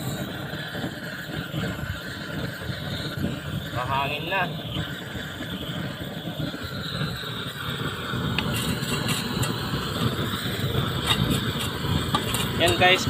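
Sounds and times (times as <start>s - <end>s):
gas torch roaring: 0.0s - 13.0s
wind on microphone: 0.0s - 13.0s.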